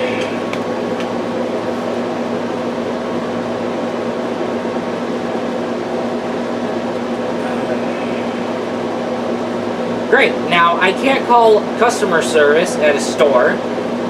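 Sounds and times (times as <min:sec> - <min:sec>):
motor whirring with electrical hum: 0:00.0 - 0:14.0.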